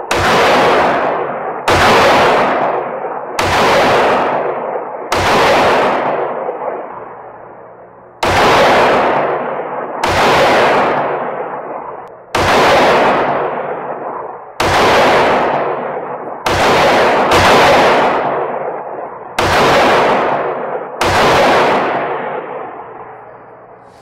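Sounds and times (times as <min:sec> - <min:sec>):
pistol shots echoing indoors: 0:00.0 - 0:24.0.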